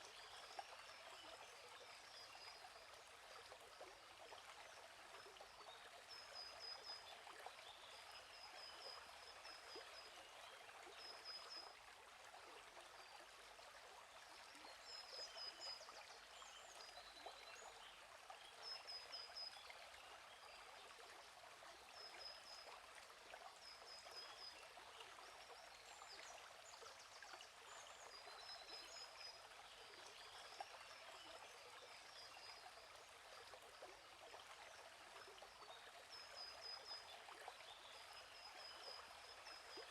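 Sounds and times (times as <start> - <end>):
running stream: 0.0 - 39.9.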